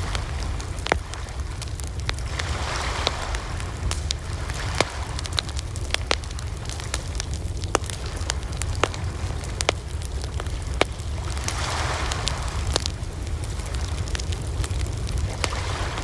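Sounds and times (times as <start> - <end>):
rushing flame or wind: 0.0 - 16.0
wood fire crackling and popping: 0.0 - 16.0.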